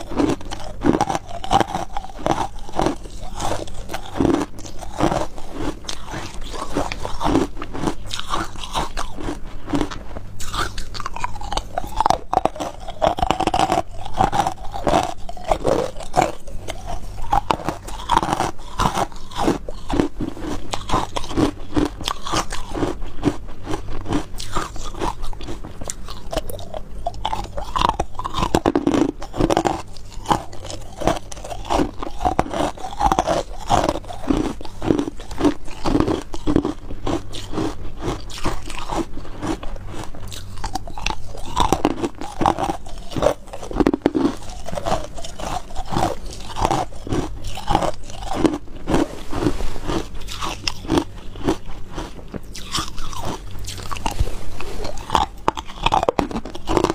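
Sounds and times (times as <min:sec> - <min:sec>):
person crunching ice: 0:00.0 - 0:56.9.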